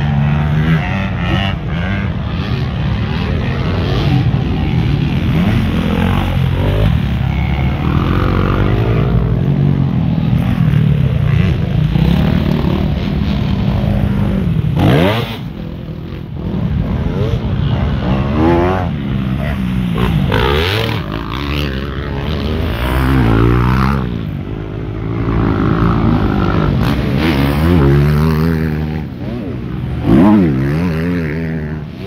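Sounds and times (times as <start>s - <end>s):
motocross motorcycle engines revving: 0.0s - 32.0s.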